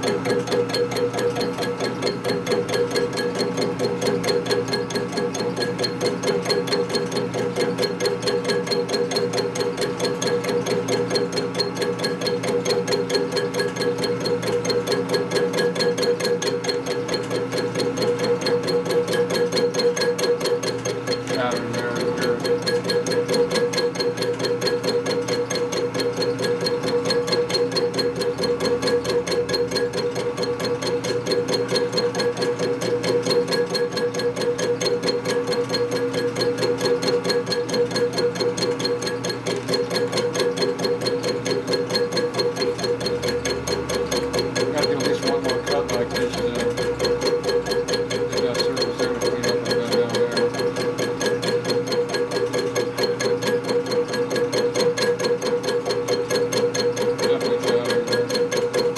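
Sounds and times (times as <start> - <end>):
milling cutter pulsing: 0.0 - 58.9.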